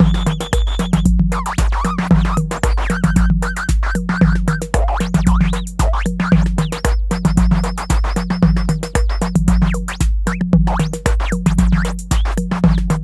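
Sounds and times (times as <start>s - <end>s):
deep booming bass drum: 0.0s - 13.0s
fast ticking hi-hats: 0.0s - 13.0s.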